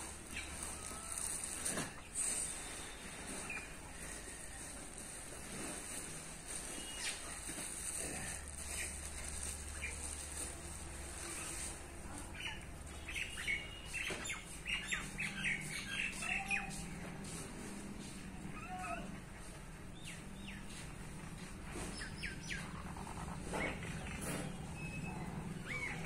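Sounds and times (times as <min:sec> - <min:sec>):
small birds chirping: 0:00.0 - 0:16.9, 0:19.9 - 0:26.0.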